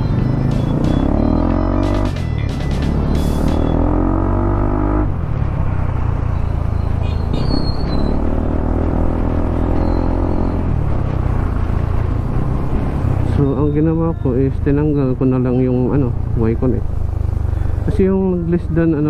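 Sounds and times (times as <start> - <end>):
scooter engine rumbling: 0.0 - 8.5, 9.1 - 19.0.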